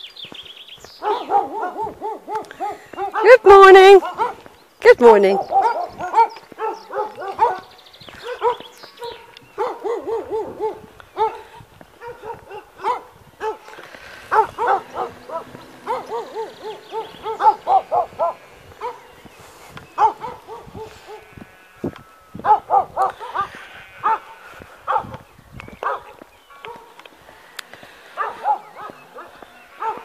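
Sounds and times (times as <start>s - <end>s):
dog barking in high yaps: 1.0s - 19.1s, 20.0s - 21.4s, 22.4s - 25.2s, 25.8s - 26.9s, 28.2s - 30.0s.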